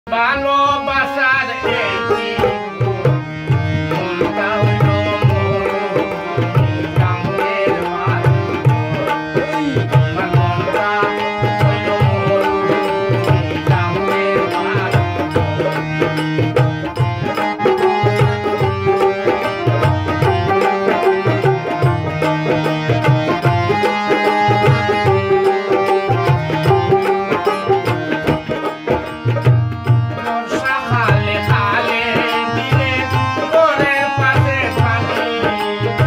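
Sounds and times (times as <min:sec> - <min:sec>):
harmonium melody: 0:00.1 - 0:36.0.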